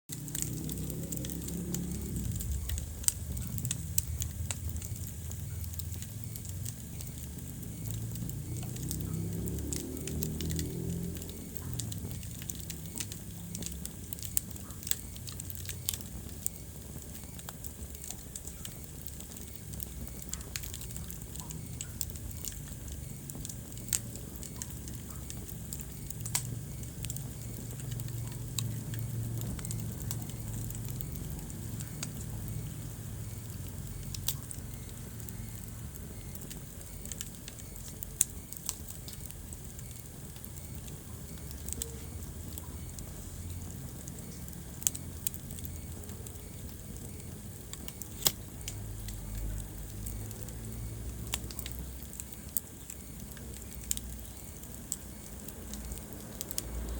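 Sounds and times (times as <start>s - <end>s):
fire crackling and popping: 0.1s - 56.9s
low rumble of flames: 0.1s - 56.9s.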